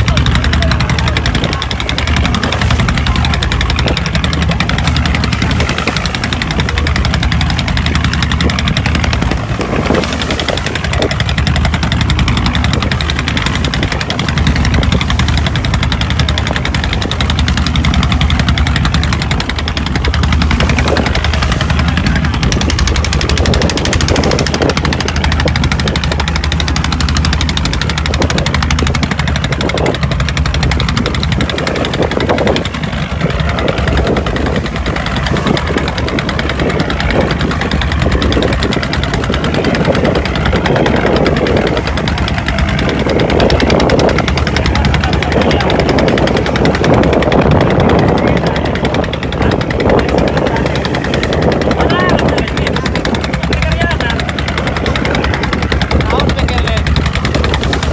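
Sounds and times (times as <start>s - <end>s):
boat engine knocking: 0.0s - 57.9s.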